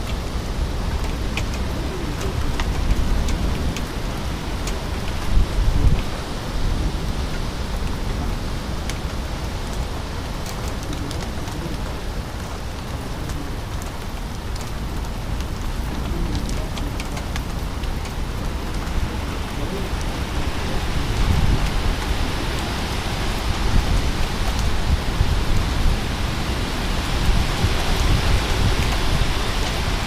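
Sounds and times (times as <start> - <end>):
storm wind on microphone: 0.0 - 30.0.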